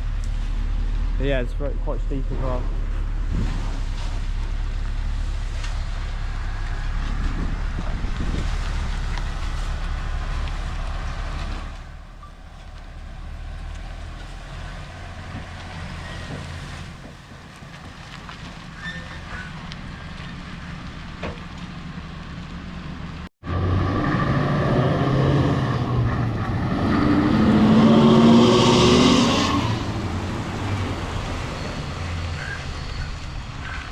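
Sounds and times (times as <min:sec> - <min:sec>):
diesel engine under load: 0:00.0 - 0:33.9.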